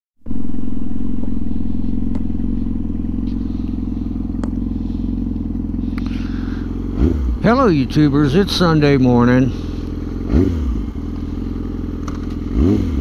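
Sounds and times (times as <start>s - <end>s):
motorcycle engine idling: 0.2s - 13.0s.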